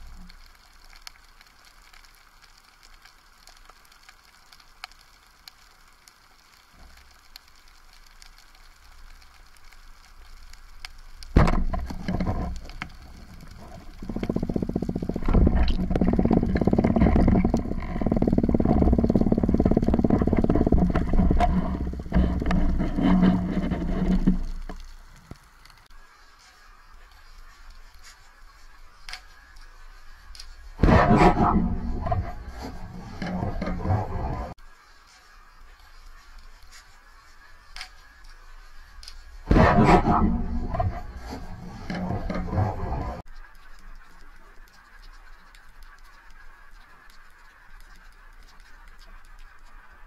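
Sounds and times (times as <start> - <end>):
rumbling water noise: 0.0 - 50.0.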